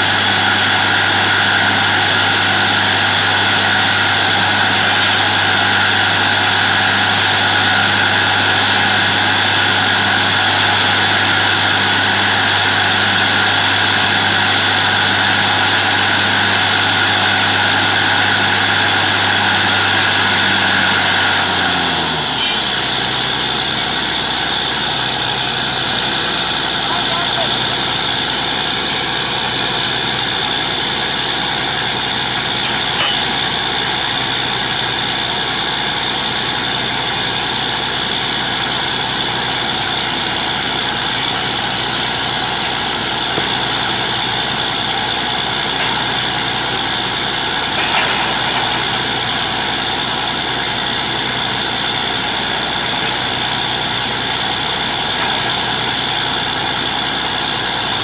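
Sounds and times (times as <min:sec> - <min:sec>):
drilling rig engine droning: 0:00.0 - 0:58.0.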